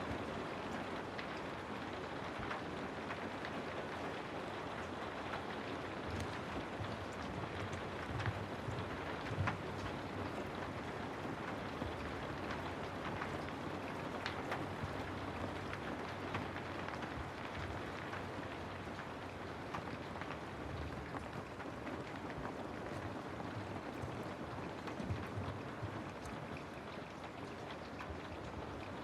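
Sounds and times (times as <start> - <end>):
rain falling on a house: 0.0 - 29.0.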